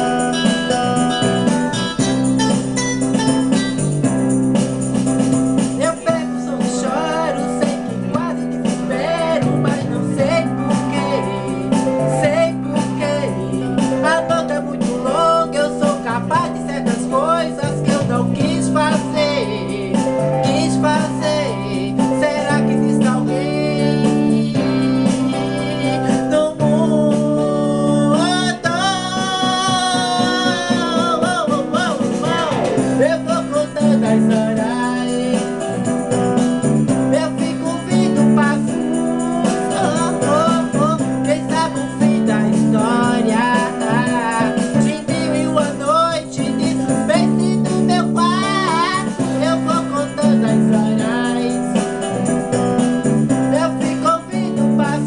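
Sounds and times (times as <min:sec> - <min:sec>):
keyboard chords: 0:00.0 - 0:55.0
person singing with vibrato: 0:05.6 - 0:55.0.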